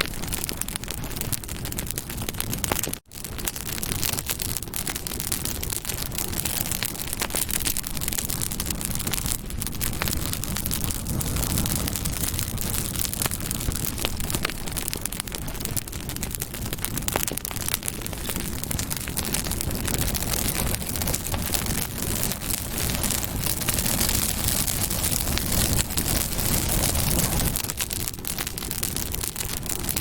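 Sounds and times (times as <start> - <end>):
campfire crackling and popping: 0.0 - 30.0
low rumble of flames: 0.0 - 30.0.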